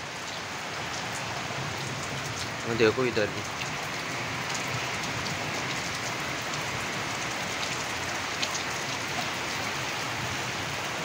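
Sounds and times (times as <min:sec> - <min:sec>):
heavy rain on rooftop: 0:00.0 - 0:11.0.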